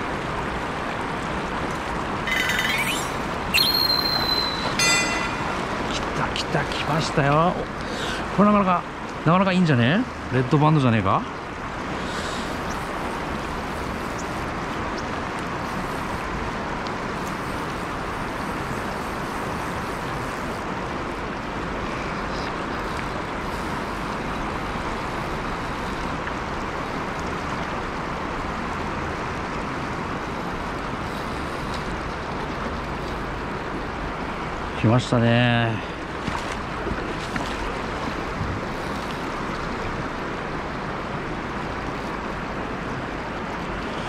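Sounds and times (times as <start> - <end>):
river rushing: 0.0 - 44.0.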